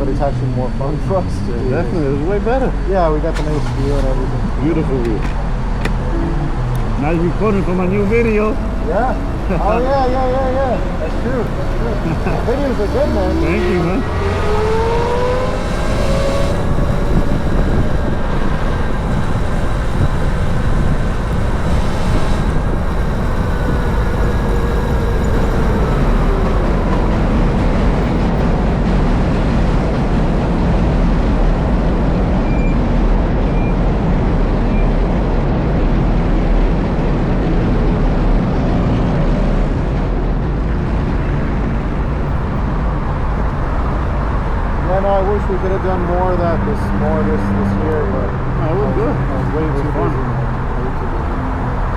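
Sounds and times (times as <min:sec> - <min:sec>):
motorcycle motor whine: 0:00.0 - 0:51.9
wind and road noise: 0:00.0 - 0:51.9.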